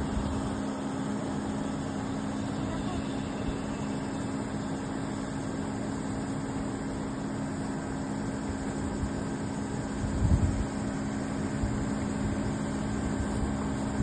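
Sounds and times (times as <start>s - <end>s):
mechanical hum with low tones: 0.0s - 14.0s.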